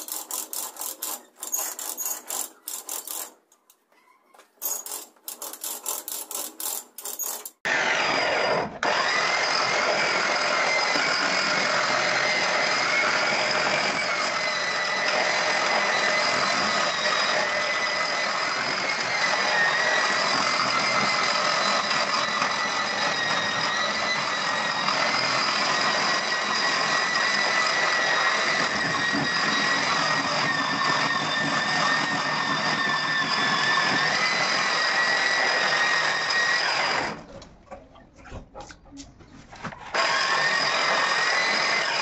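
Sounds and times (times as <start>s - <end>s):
angle grinder grinding concrete: 0.0s - 3.8s, 4.6s - 37.4s, 39.8s - 42.0s.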